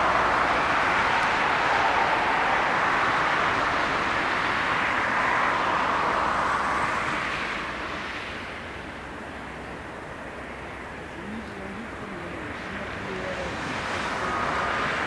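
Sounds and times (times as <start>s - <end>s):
jet engines roaring at takeoff: 0.0s - 9.1s, 10.8s - 15.0s.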